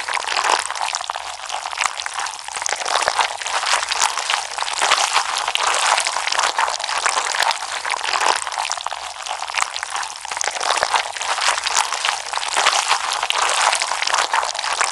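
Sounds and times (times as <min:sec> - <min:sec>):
slime squished by hand: 0:00.0 - 0:14.9.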